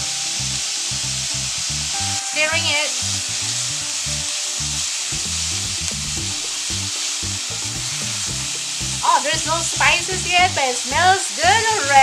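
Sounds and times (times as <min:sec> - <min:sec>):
pork sizzling in a saucepan: 0:00.0 - 0:12.0.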